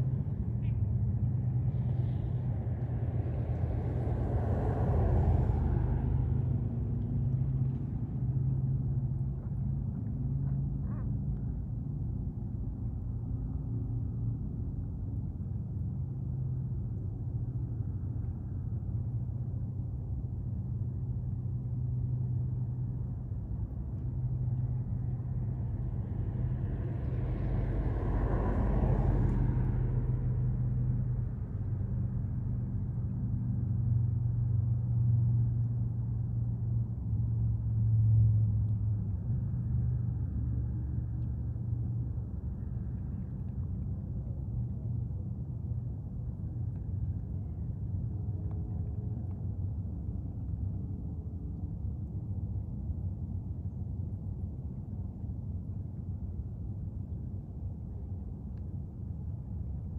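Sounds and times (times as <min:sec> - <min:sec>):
low engine hum: 0:00.0 - 0:59.9.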